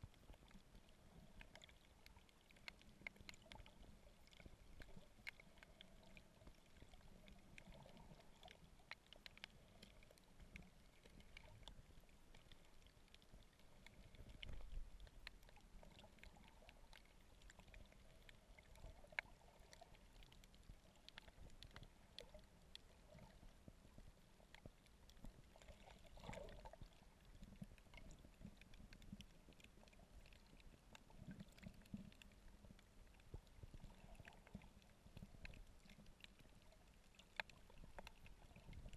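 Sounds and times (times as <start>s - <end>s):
crackle of small clicks: 0.0s - 38.9s
underwater rumble: 0.0s - 38.9s.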